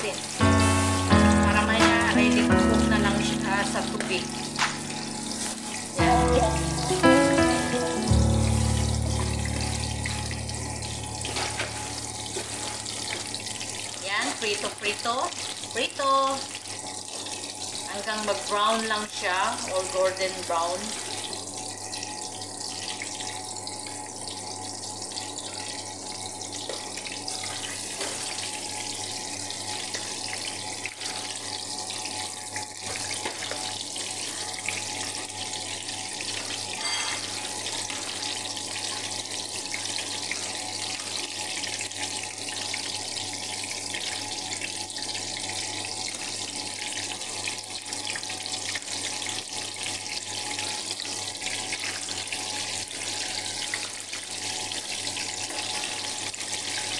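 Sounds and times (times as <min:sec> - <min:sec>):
frying sizzle in hot oil: 0:00.0 - 0:56.9.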